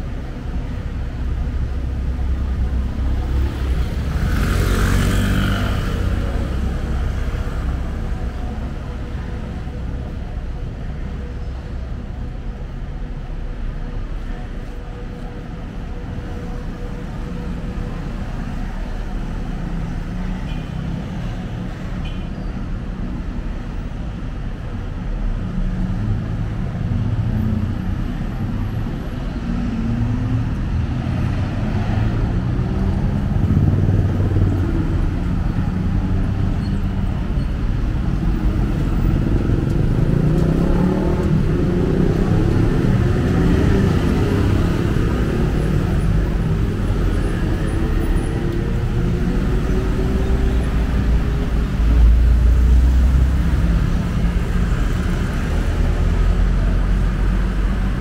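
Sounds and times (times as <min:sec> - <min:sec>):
passing vehicle engines: 0:00.0 - 0:58.0.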